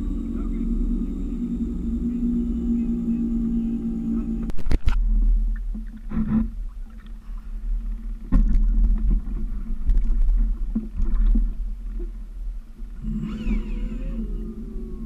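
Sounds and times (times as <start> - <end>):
low uneven rumble: 0.0 - 15.0
steady low hum: 0.0 - 15.0.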